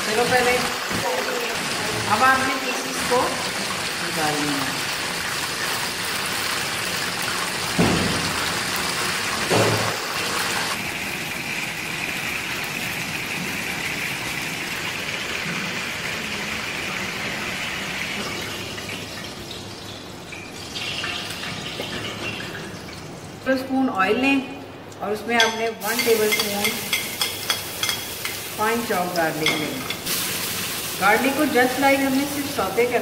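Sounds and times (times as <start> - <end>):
chicken deep-frying in oil: 0.0 - 23.4, 25.8 - 33.0.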